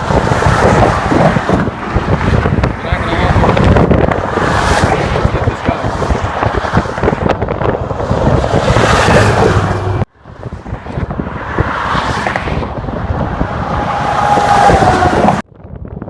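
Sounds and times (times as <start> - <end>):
passing road traffic: 0.0 - 15.5
wind noise on microphone: 0.0 - 16.0.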